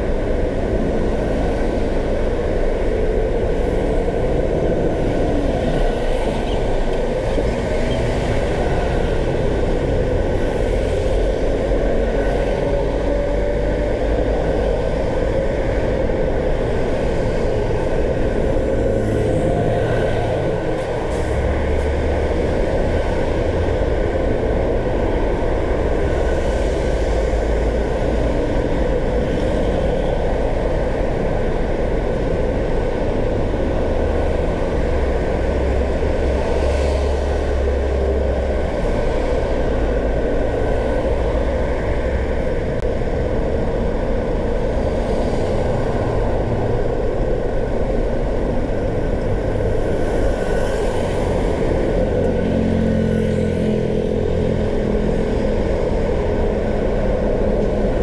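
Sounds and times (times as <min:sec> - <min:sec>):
car tyre and engine noise: 0:00.0 - 0:58.0.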